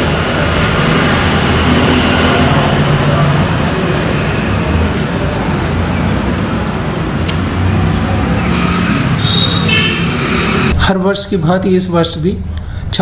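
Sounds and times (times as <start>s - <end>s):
road traffic: 0.0s - 10.8s
vehicle engines running: 0.0s - 10.8s.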